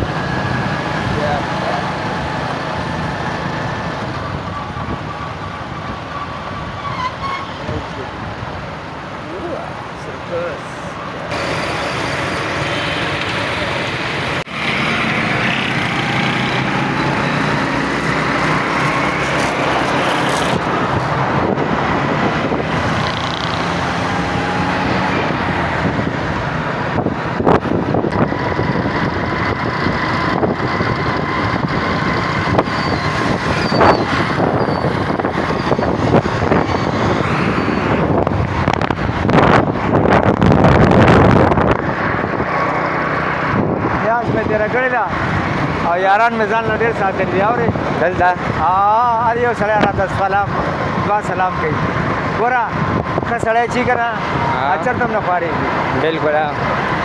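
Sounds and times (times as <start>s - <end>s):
vehicle road and engine noise: 0.0s - 57.0s.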